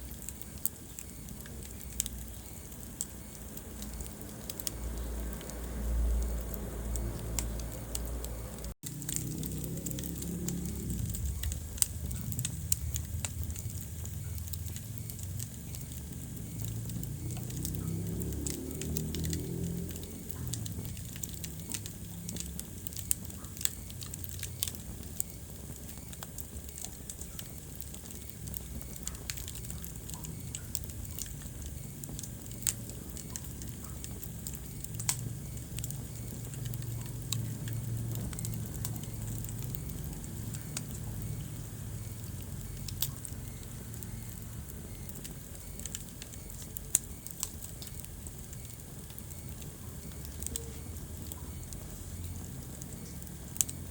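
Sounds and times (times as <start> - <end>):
fire pops: 0.0 - 53.9
low steady rumble: 0.0 - 53.9
wood fire crackling: 0.0 - 53.9.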